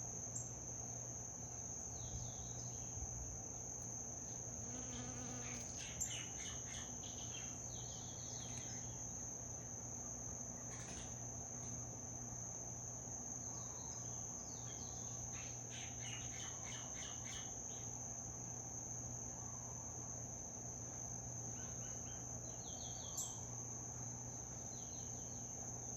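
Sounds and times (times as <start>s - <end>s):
insects trilling: 0.2s - 25.9s.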